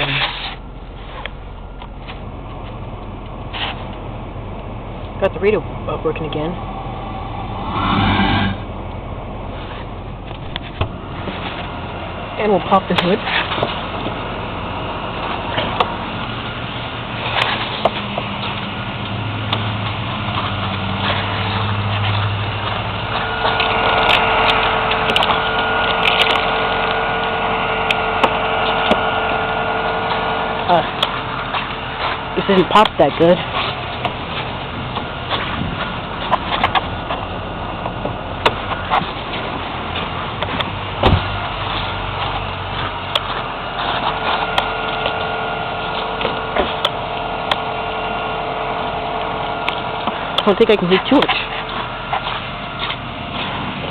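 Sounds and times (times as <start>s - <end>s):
car engine idling: 0.0s - 53.9s
defroster blower running: 0.0s - 53.9s.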